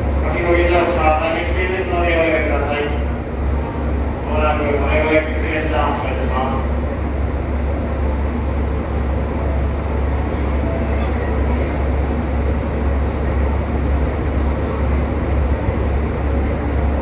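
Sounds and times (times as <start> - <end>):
electric train equipment hum: 0.0 - 17.0.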